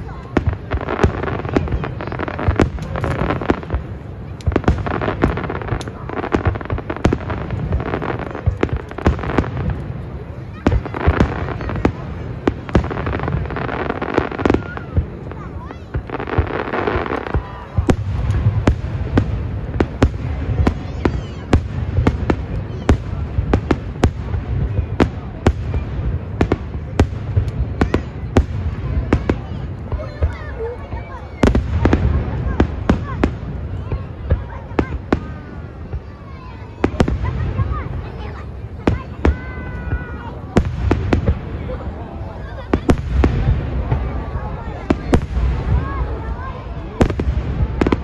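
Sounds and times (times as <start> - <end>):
firework bangs: 0.0 - 48.0.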